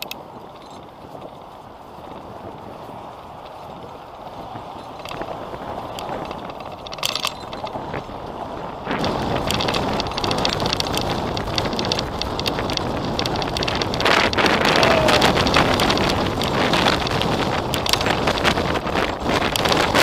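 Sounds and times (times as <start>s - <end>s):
bicycle frame rattling: 0.0s - 20.0s
wind buffeting microphone: 0.0s - 20.0s.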